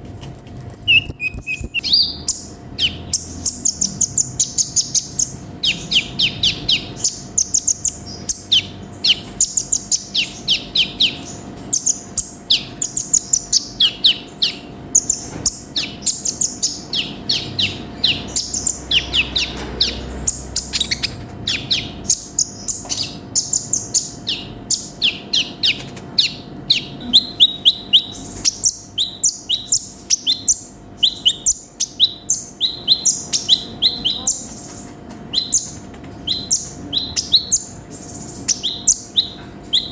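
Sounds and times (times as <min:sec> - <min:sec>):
sunbird singing fast trills: 0:00.4 - 0:39.9.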